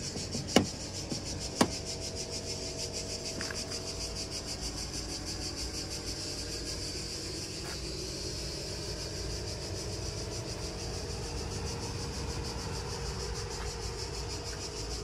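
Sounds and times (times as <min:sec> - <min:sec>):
diesel engine idling: 0:00.0 - 0:15.0
high hiss: 0:00.0 - 0:15.0.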